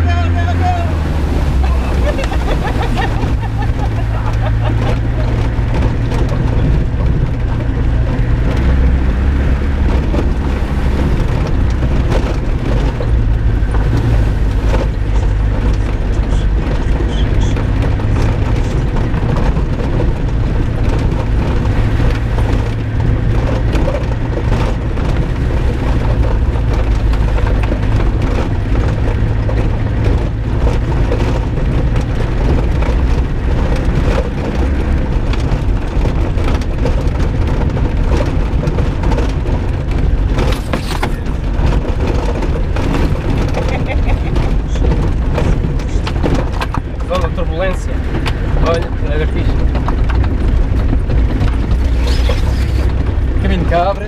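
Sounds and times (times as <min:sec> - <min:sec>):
knocks and rattles from bumps: 0:00.0 - 0:54.0
vehicle engine low drone: 0:00.0 - 0:54.0.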